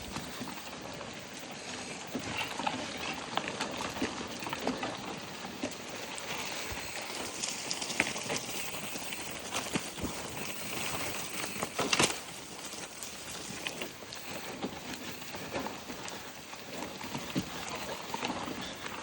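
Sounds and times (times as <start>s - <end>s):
bike rattling over bumps: 0.0s - 19.0s
bike tyres crunching on trail: 0.0s - 19.0s.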